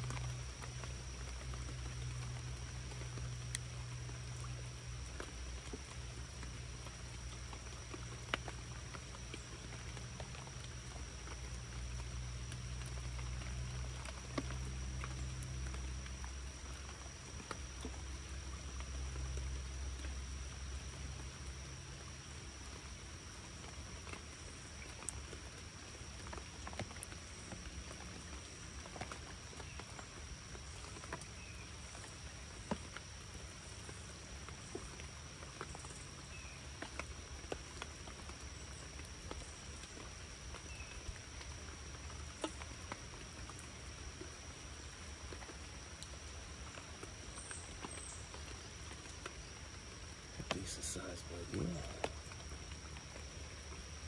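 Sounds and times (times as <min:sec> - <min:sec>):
rain falling: 0:00.0 - 0:54.0
raindrops tapping close by: 0:00.0 - 0:54.0.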